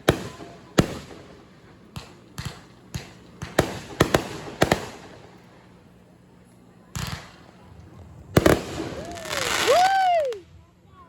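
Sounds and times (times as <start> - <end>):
fireworks bangs: 0.0 - 6.2, 6.8 - 10.4.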